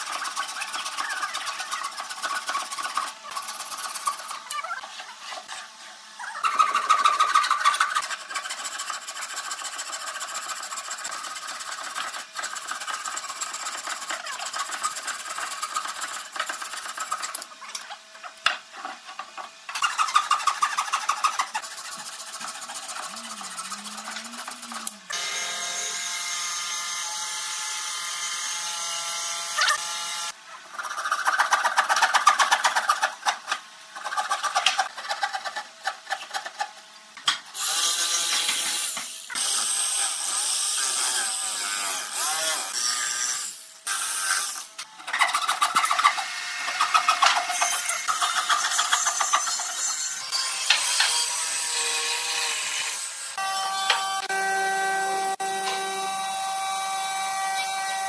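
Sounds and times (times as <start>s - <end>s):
hand saw cutting wood: 0.0s - 36.9s, 37.5s - 58.0s.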